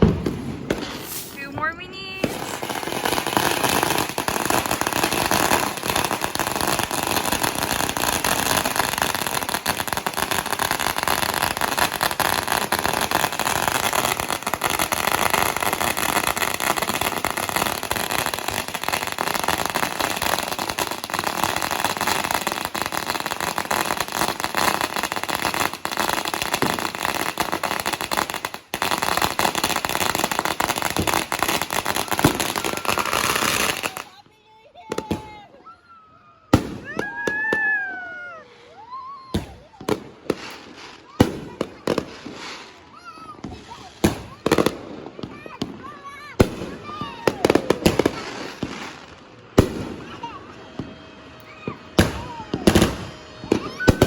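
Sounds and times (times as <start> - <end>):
firecrackers crackling: 0.0 - 35.6, 36.5 - 54.0.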